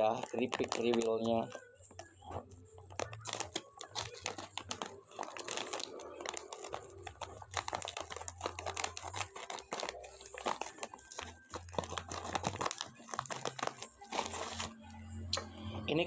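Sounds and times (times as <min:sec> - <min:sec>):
crispy chips crunching: 0:00.0 - 0:14.8
plastic pouch crinkling: 0:00.0 - 0:15.4.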